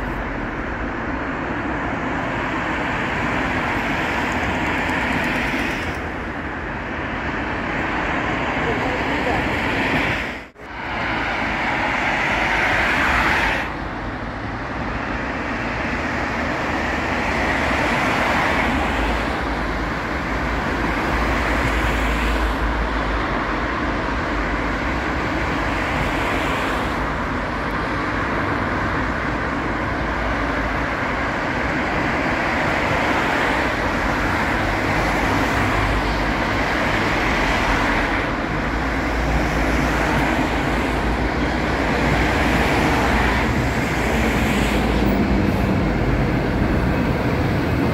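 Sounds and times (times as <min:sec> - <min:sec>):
cars passing: 0:00.0 - 0:47.9.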